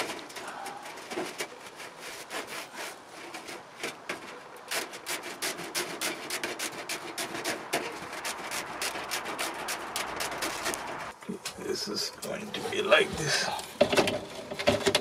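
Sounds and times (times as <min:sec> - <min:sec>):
metal mesh rubbed on plastic: 0:00.0 - 0:11.2, 0:12.2 - 0:15.0.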